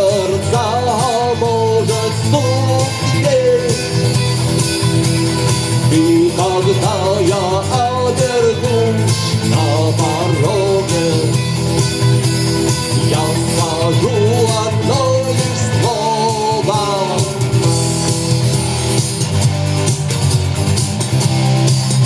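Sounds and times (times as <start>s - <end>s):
drums: 0.0s - 22.0s
guitars: 0.0s - 22.0s.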